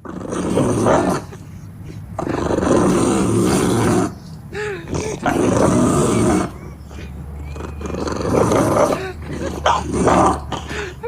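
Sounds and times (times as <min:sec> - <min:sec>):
dog growling and snarling: 0:00.0 - 0:11.0.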